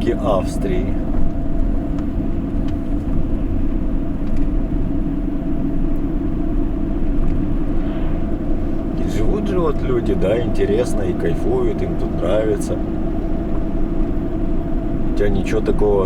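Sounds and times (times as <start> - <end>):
faint constant hum: 0.0 - 16.0
van engine and road rumble: 0.0 - 16.0.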